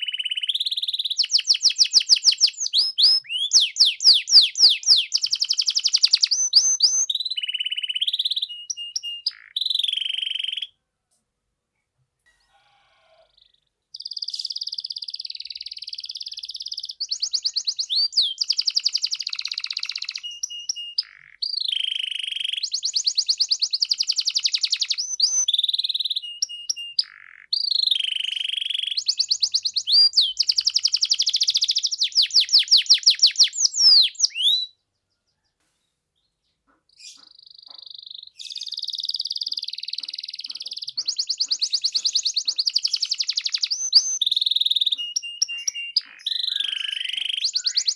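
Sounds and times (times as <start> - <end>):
canary singing trills: 0.0 - 10.8, 12.3 - 35.6, 36.2 - 47.9.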